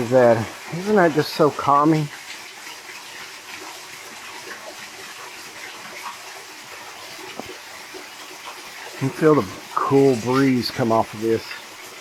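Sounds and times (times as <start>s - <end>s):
waterfall splashing over rocks: 0.0s - 12.0s.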